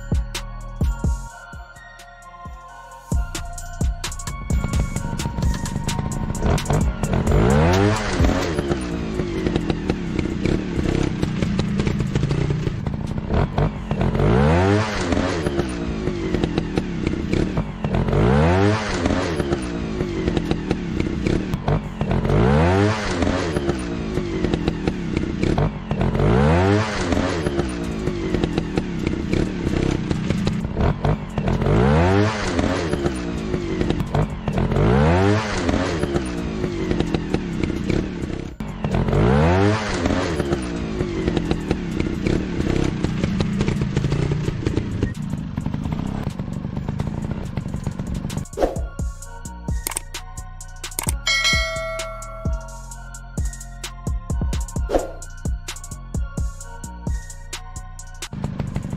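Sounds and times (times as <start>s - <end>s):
motorcycle engine revving: 4.2s - 53.5s, 54.7s - 58.9s.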